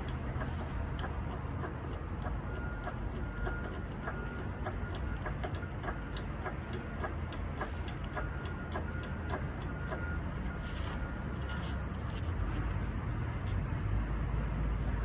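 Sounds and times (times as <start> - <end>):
light engine ticking: 0.0 - 12.6.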